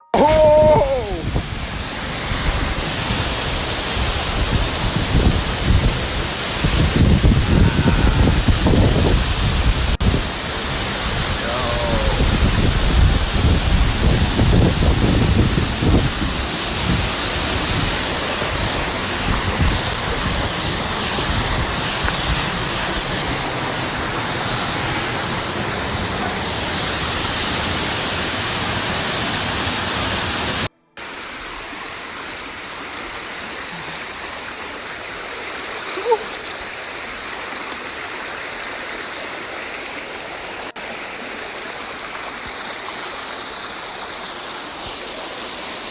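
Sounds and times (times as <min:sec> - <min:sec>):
waterfall roaring: 0:00.2 - 0:45.9.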